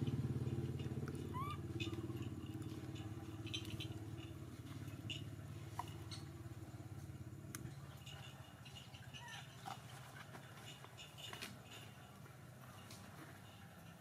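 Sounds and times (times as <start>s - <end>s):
engine low pulsing hum: 0.0s - 14.0s.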